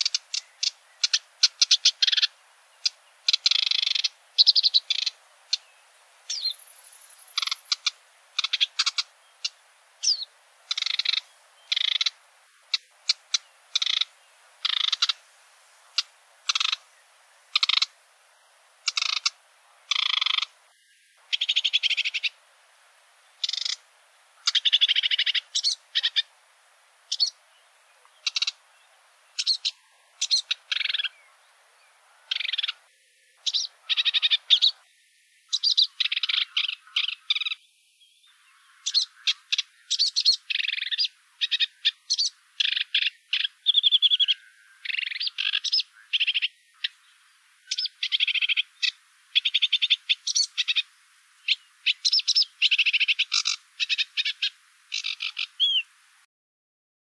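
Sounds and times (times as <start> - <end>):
warbler singing scratchy trills: 0.0 - 15.2, 15.8 - 56.1.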